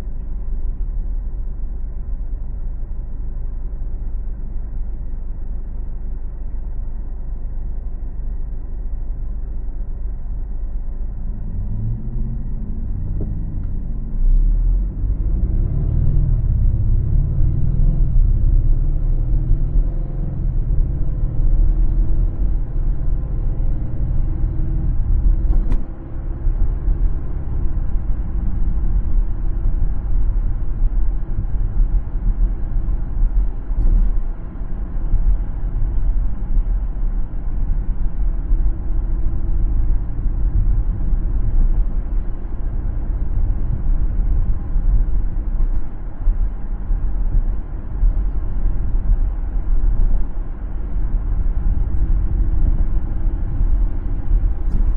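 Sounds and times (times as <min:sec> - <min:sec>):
car engine: 0:00.0 - 0:54.9
road and tyre rumble: 0:00.0 - 0:54.9.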